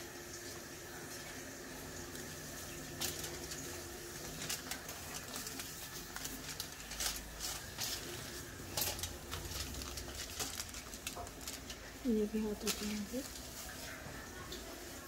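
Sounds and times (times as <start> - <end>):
foil crinkling: 2.0 - 15.0.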